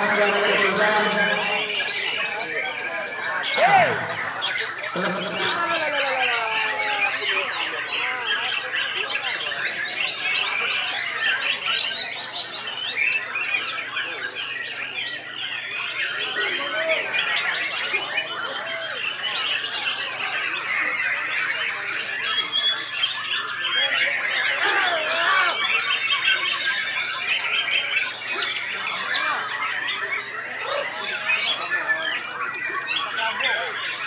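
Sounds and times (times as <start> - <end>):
other caged birds singing: 0.0 - 34.0.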